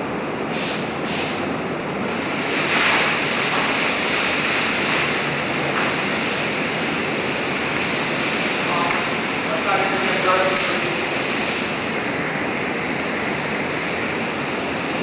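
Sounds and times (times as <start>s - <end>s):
large fire roaring: 0.0s - 15.0s
spray burner hissing: 0.3s - 15.0s.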